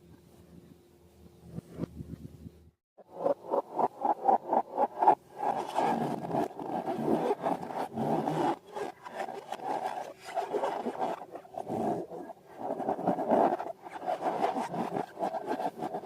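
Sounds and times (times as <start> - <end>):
rubber balloons being rubbed: 3.2 - 16.0.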